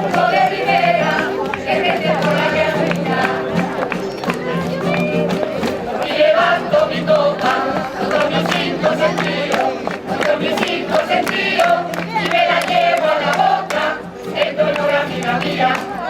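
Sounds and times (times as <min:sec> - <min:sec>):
choir singing together: 0:00.0 - 0:16.0
guitar strumming: 0:00.0 - 0:16.0.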